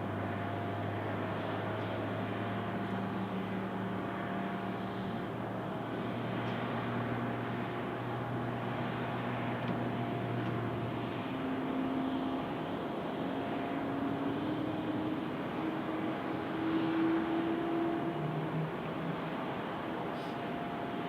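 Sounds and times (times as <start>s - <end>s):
aircraft mechanical hum: 0.0s - 21.0s.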